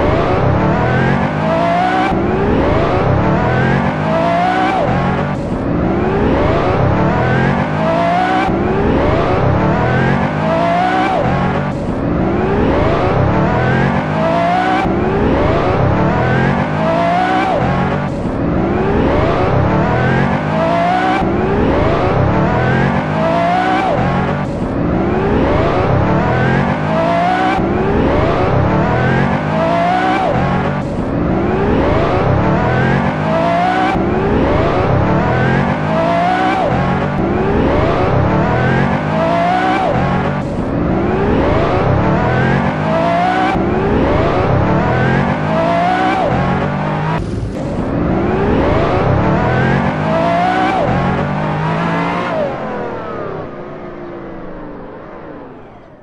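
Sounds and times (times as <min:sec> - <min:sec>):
sports car engine accelerating: 0:00.0 - 0:56.0.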